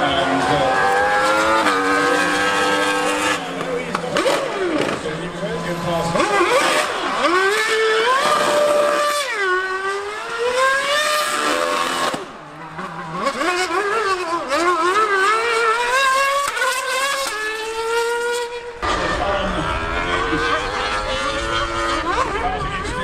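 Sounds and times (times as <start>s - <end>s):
racing car engine revving: 0.0s - 23.0s.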